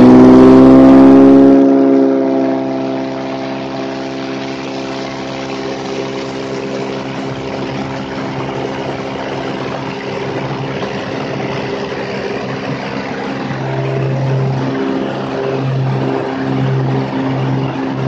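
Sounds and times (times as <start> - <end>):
plane engine and propeller drone: 0.0 - 18.0.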